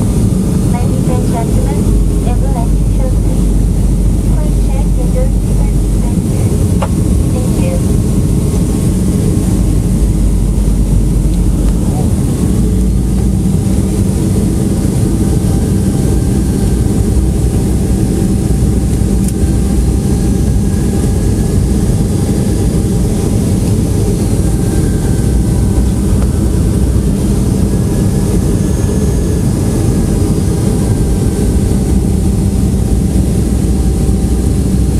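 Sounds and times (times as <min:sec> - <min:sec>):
faint steady whine: 0:00.0 - 0:34.9
jet engine and airflow rumble: 0:00.0 - 0:34.9.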